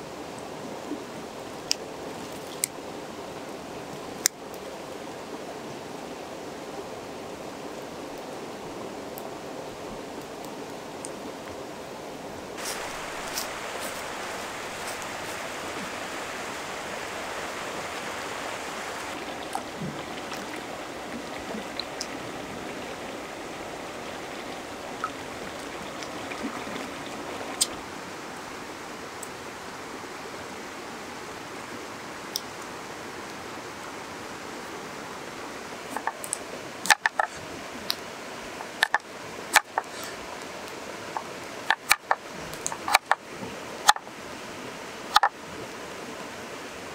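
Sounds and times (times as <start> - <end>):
river water flowing over stones: 0.0 - 46.9.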